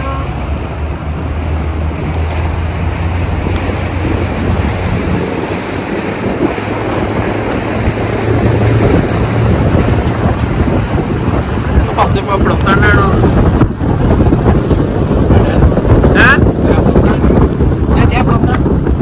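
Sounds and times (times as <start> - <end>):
motorboat engine drone: 0.0 - 19.0
water rushing past hull: 0.0 - 19.0
wind buffeting microphone: 0.0 - 19.0.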